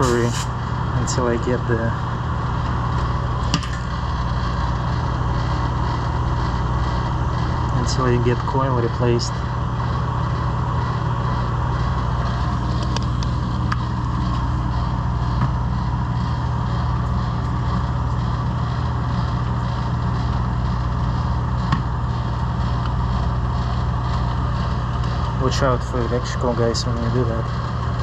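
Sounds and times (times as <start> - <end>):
refrigerator compressor humming: 0.0 - 28.0.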